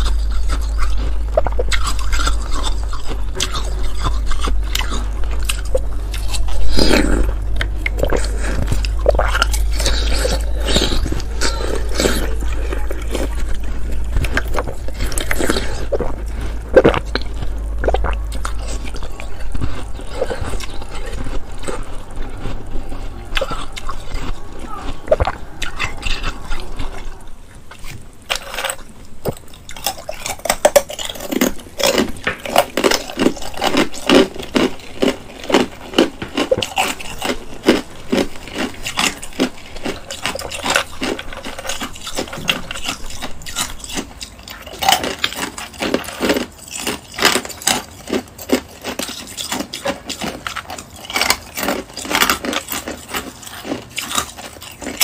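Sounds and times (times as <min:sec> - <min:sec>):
crisp biting and chewing crunches: 0:00.0 - 0:55.0.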